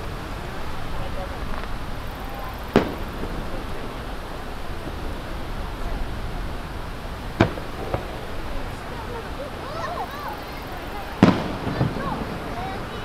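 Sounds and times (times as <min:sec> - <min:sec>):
firework shells bursting: 0:00.0 - 0:13.0
steady background noise: 0:00.0 - 0:13.0.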